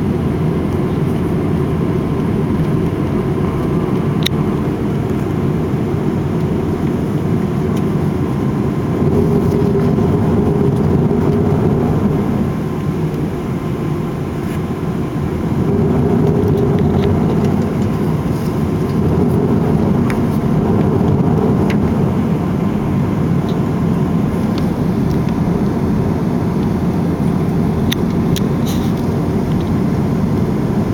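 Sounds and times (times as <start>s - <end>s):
jet engines running in cabin: 0.0s - 30.9s.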